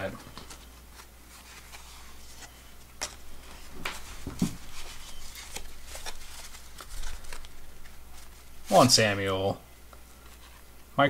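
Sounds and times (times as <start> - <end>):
cards clicking and rustling: 0.1 - 9.1.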